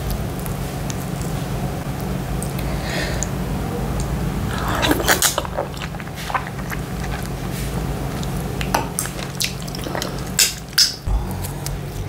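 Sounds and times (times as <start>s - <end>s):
wet mouth clicks and smacks: 0.0s - 3.4s, 4.0s - 7.4s, 8.1s - 11.8s
steady low hum: 0.0s - 12.0s.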